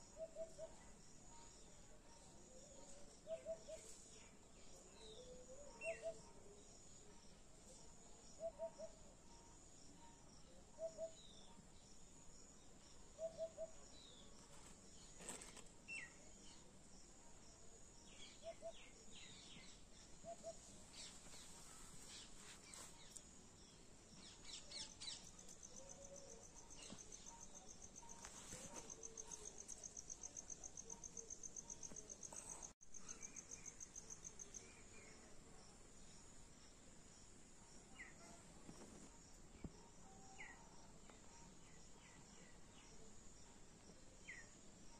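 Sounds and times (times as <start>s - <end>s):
steady insect hiss: 0.0s - 44.9s.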